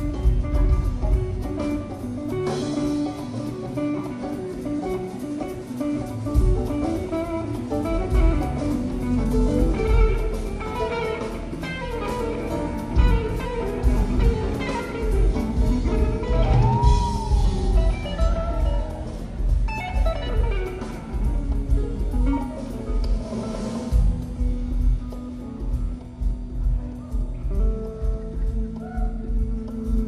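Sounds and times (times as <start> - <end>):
bass: 0.0 - 30.0
drums: 0.0 - 30.0
electric guitar melody: 0.0 - 30.0.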